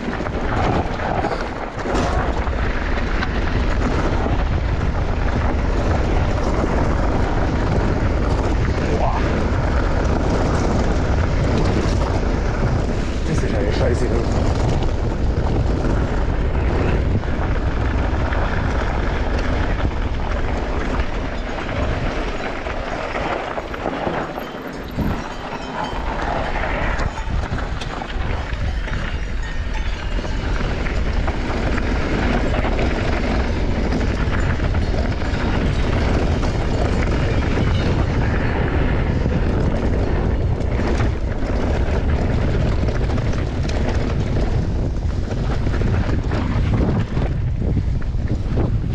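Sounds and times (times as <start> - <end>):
bike rattling over bumps: 0.0 - 48.9
bike tyres rolling over dirt: 0.0 - 48.9
wind noise on microphone: 0.0 - 48.9.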